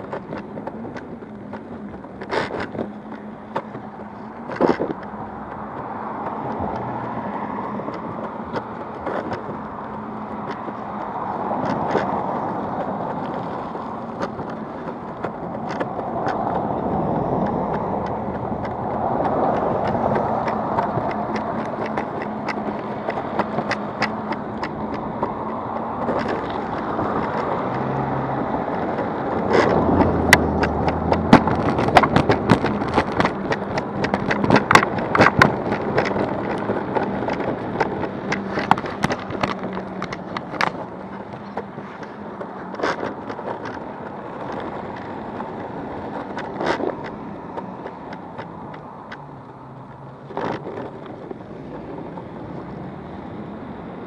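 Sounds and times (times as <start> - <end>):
clicks and rattles: 0.0 - 52.2
skateboard wheels rumbling on asphalt: 0.0 - 54.0.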